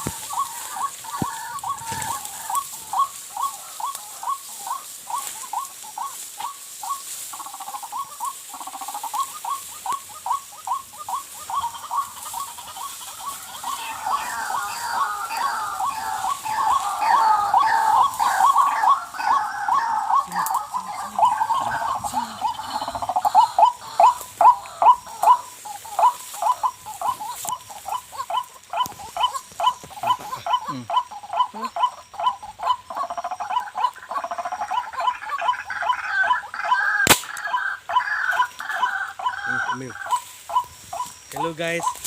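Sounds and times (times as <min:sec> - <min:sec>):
bird calling harsh repeated notes: 0:00.0 - 0:42.0.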